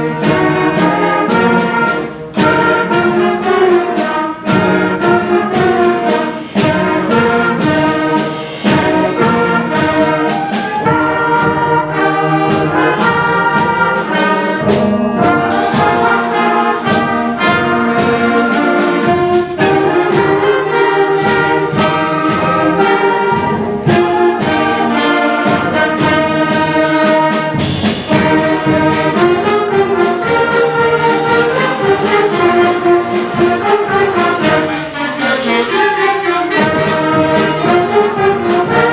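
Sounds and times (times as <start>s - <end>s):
band with loud brass: 0.0s - 38.9s
percussion strokes: 0.0s - 38.9s.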